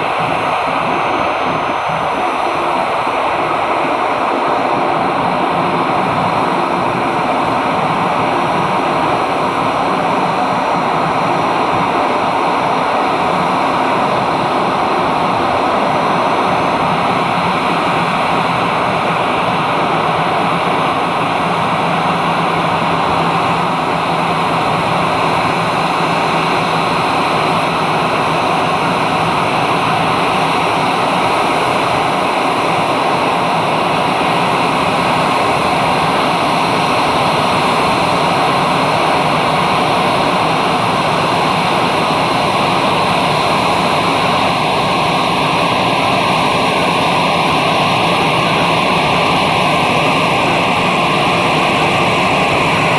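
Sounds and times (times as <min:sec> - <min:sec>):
faint constant whine: 0:00.0 - 0:52.9
jet engines running: 0:00.0 - 0:52.9.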